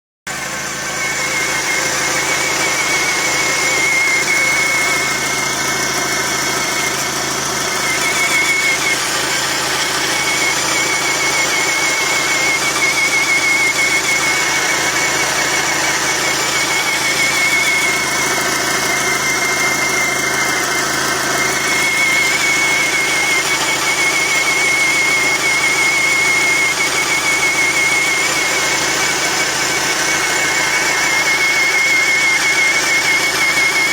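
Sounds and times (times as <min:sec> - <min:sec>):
car engine running: 0:00.3 - 0:33.9
high steady whistle: 0:00.3 - 0:33.9.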